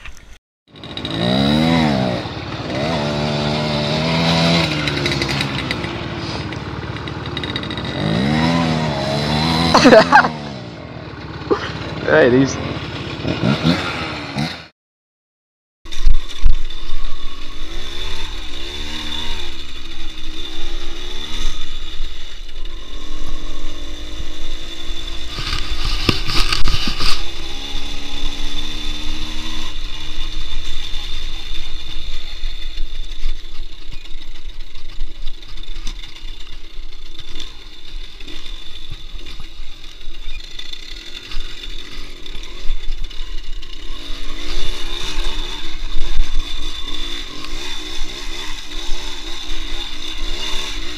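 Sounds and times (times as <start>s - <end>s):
motorcycle engine revving: 0.7s - 14.7s, 15.9s - 50.9s.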